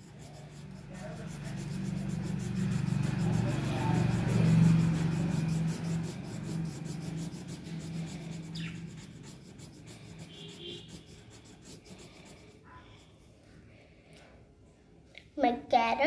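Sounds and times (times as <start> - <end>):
marker rubbing on paper: 0.0 - 13.0.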